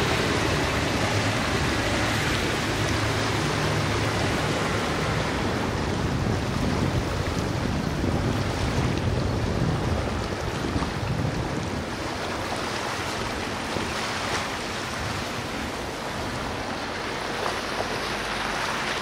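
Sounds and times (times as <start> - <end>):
low engine drone: 0.0 - 10.0, 12.1 - 19.0
rush of water from hull: 0.0 - 19.0.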